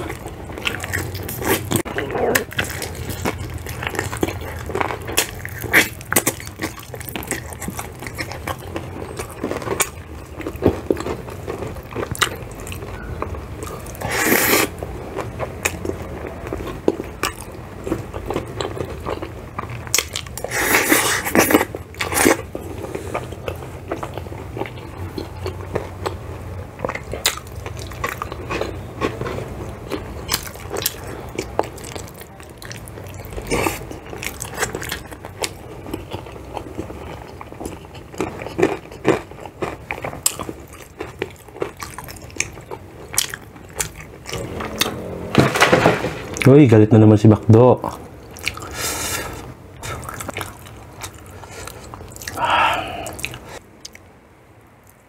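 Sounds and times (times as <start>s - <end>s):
chewing crispy food: 0.0s - 54.2s.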